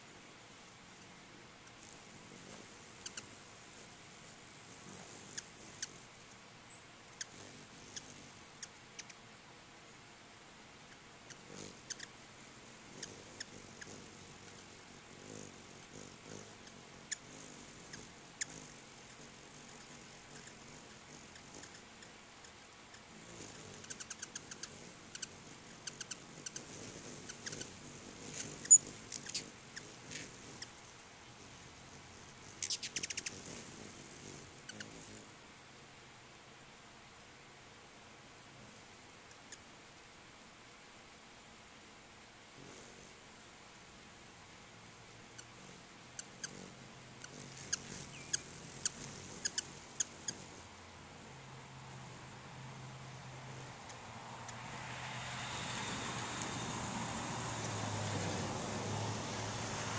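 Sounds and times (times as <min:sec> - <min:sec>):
hummingbirds chipping and squeaking: 0:00.0 - 0:36.2, 0:38.2 - 0:59.9.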